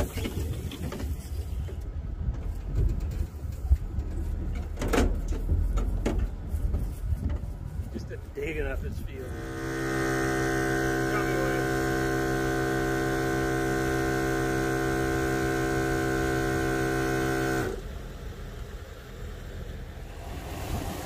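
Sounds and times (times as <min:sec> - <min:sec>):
loud droning hum: 0:02.0 - 0:21.0.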